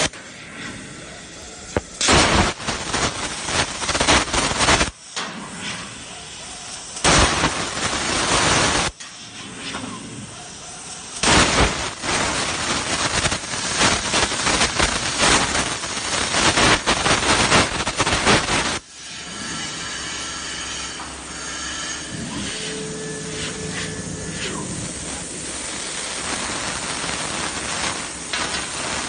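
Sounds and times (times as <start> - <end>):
plasma cutter hissing and crackling: 0.0 - 29.0.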